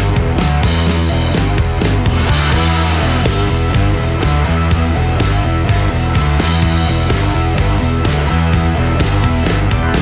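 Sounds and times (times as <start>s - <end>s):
rock music with distorted guitar: 0.0s - 10.0s.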